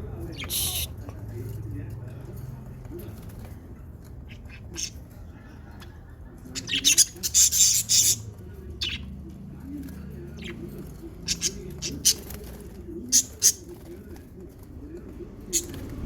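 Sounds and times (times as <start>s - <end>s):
lovebirds chirping and squawking: 0.0s - 1.6s, 2.2s - 14.0s, 15.4s - 16.0s.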